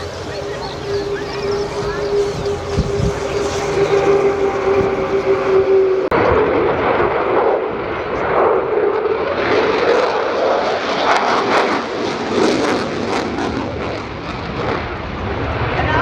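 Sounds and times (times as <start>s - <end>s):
aircraft engine tone: 0.0s - 16.0s
aircraft flying past rushing: 0.0s - 16.0s.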